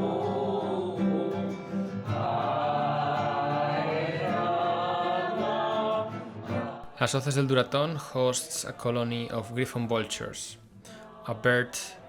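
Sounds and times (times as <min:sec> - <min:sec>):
group singing a mantra: 0:00.0 - 0:10.2, 0:10.9 - 0:12.0.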